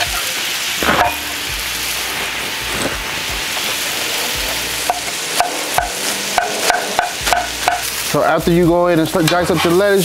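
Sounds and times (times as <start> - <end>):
meat sizzling on griddle: 0.0 - 10.0.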